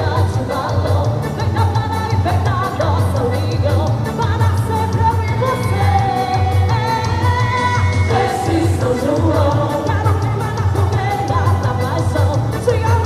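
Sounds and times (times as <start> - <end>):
music with fast beat: 0.0 - 13.0
person singing: 0.0 - 13.0.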